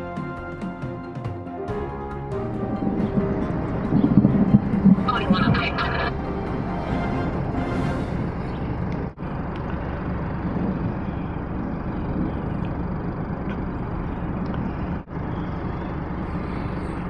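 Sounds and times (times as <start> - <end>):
street noise rumble and hiss: 1.6 - 17.0.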